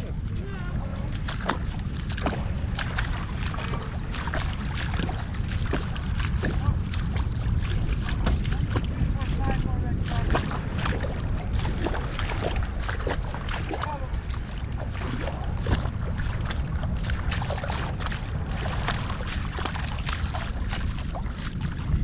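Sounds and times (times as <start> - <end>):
low engine rumble: 0.0 - 22.0
water splashing and sloshing: 0.0 - 22.0.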